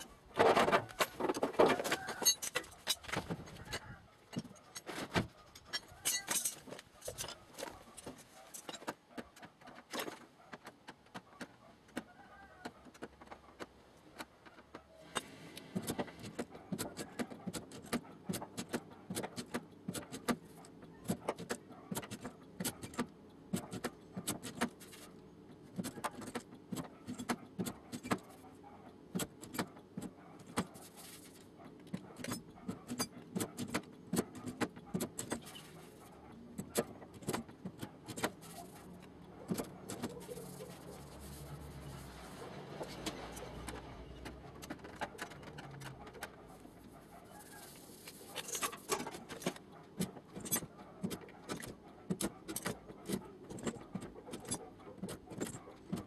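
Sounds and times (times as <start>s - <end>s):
steady background noise: 0.0s - 56.0s.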